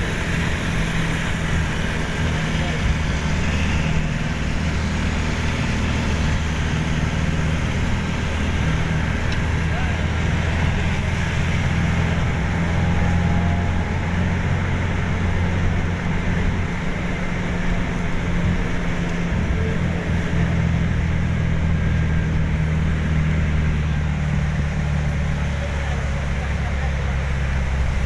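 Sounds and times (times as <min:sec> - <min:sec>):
road noise: 0:00.0 - 0:28.0
vehicle engine drone: 0:00.0 - 0:28.0.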